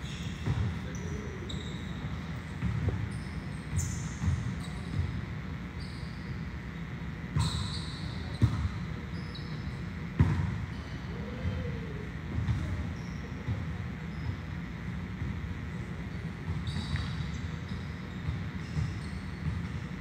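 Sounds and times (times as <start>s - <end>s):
sneakers squeaking on floor: 0.0s - 11.7s, 12.4s - 20.0s.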